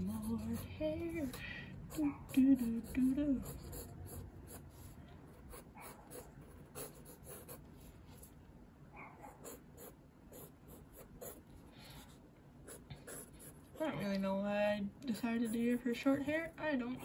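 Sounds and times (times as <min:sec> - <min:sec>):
pencil scratching on paper: 0:00.0 - 0:08.3, 0:09.3 - 0:14.1, 0:15.1 - 0:17.0.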